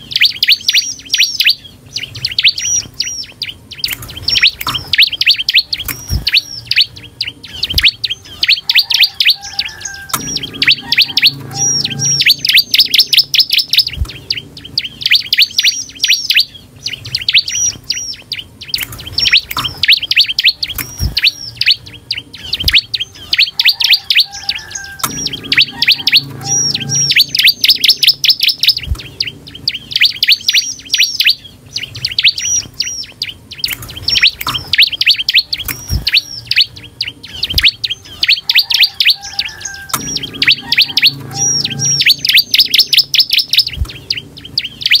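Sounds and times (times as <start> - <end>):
bird singing high chirps: 0.0 - 45.0.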